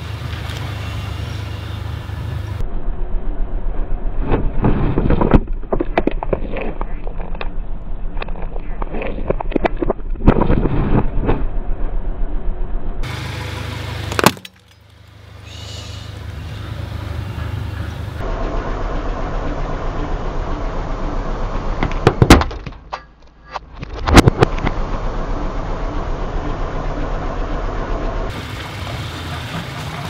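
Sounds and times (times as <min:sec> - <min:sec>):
car running with low drone: 0:00.0 - 0:30.0.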